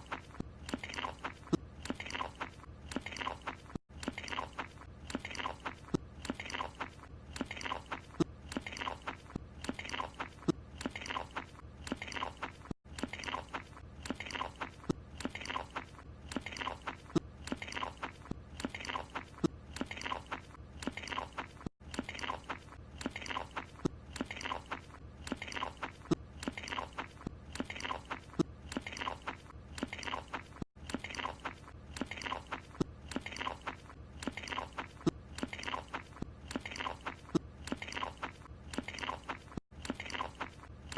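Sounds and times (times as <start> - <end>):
cartoon chewing crunchy chomps: 0.0 - 40.9.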